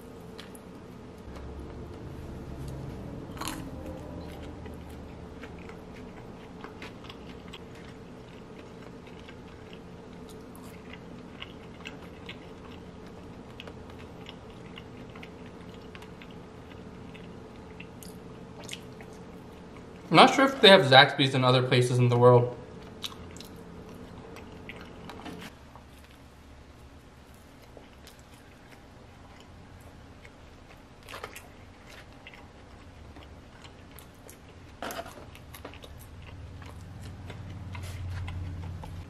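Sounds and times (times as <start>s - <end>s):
chewing and crunching food: 0.0s - 20.1s, 22.7s - 39.0s.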